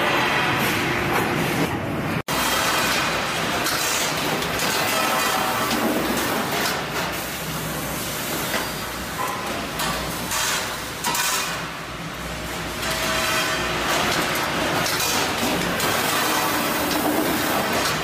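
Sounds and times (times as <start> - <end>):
industrial machinery din: 0.0 - 18.0.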